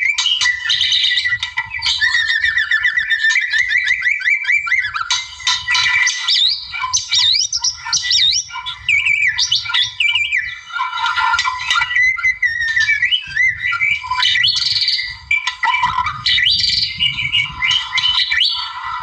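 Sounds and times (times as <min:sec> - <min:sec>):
songbird singing varied song: 0:00.0 - 0:18.9.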